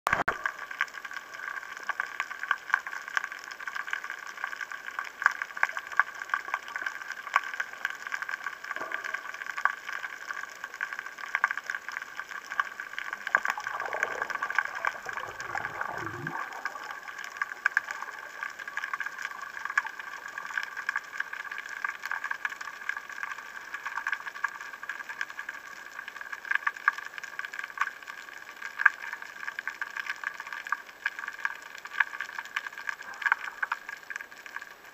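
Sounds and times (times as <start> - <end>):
crackle of sharp underwater clicks: 0.1 - 34.9.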